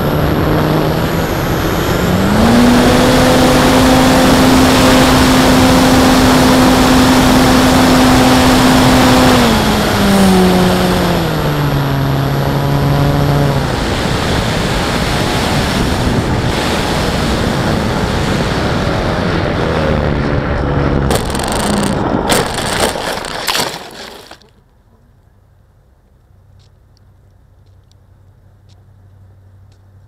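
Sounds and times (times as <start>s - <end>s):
plane hitting the ground: 0.0s - 24.5s
propeller hum: 0.0s - 30.0s.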